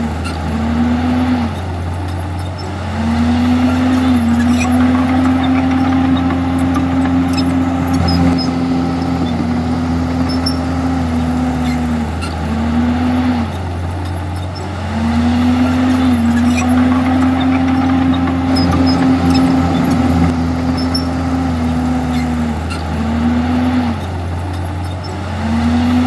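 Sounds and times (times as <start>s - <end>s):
bulldozer diesel engine: 0.0s - 26.0s.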